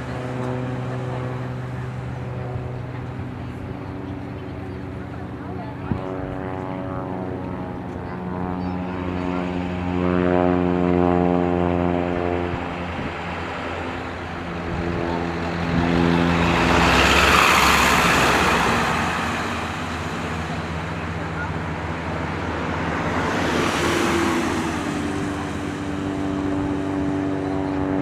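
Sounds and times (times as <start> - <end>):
plane rushing past: 0.0 - 28.0
propeller aircraft engines droning: 0.0 - 28.0.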